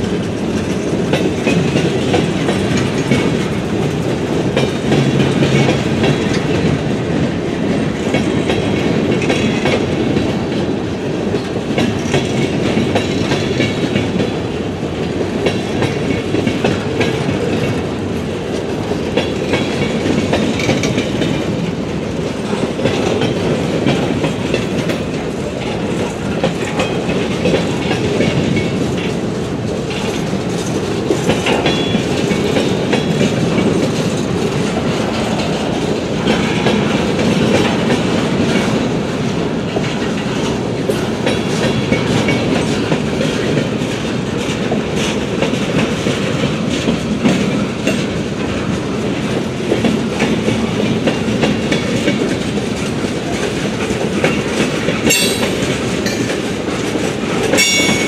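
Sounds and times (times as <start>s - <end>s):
steel wheels rumbling on rail: 0.0s - 58.0s
wheels clanking over rail joints: 0.0s - 58.0s.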